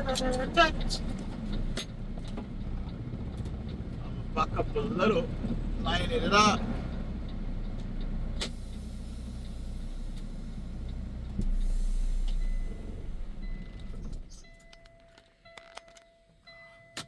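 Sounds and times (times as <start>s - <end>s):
heavy truck engine running: 0.0s - 15.2s.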